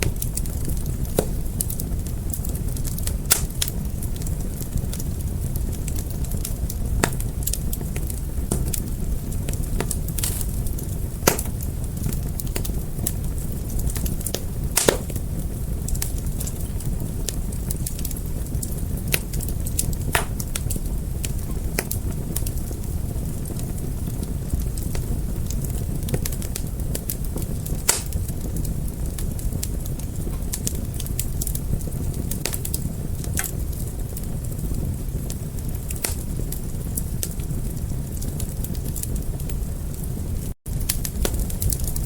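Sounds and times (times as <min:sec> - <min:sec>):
fire crackling and popping: 0:00.0 - 0:42.0.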